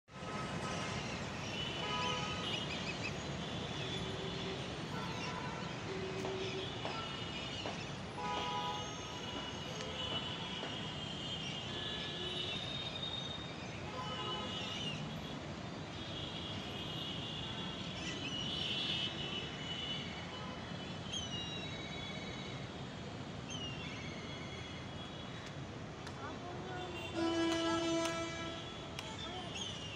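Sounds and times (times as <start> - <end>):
city traffic hum: 0.0 - 29.9.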